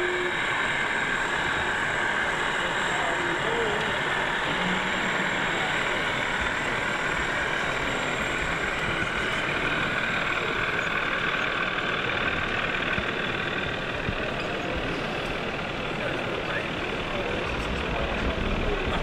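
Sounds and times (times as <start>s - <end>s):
exhibition hall hubbub: 0.0s - 19.0s.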